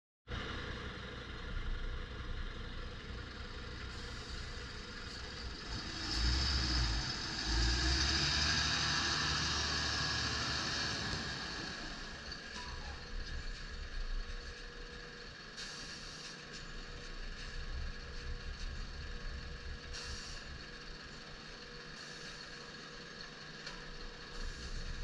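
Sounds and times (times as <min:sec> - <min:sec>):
dump truck diesel engine accelerating: 0:00.3 - 0:25.0.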